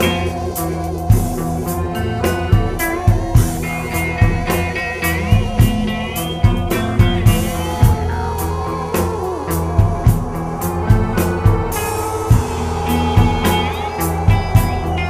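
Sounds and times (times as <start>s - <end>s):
band playing blues-rock: 0.0s - 15.0s
lead line sliding up: 0.0s - 15.0s
steady drum beat: 0.0s - 15.0s.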